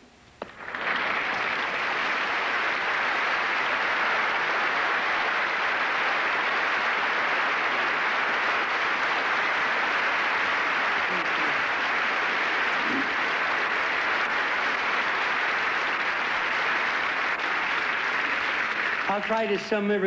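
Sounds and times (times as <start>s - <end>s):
audience applauding: 0.4s - 20.0s.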